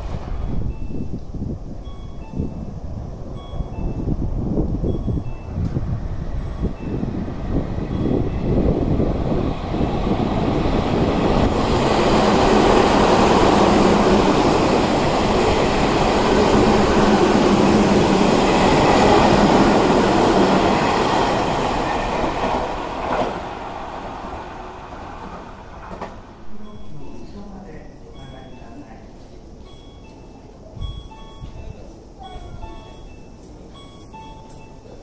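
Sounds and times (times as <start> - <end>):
train wheels rumbling on rail: 0.0 - 30.2
electric train hum: 0.0 - 35.0.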